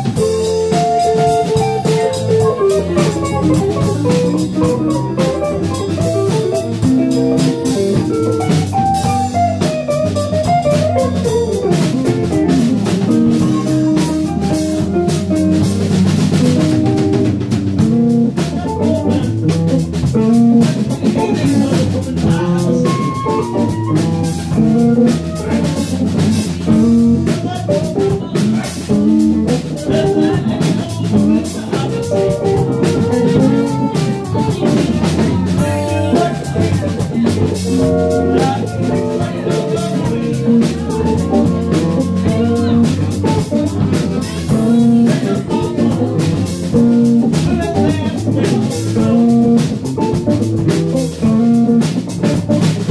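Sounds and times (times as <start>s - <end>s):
drum kit: 0.0s - 52.9s
electric bass: 0.0s - 52.9s
electric guitar: 0.0s - 52.9s.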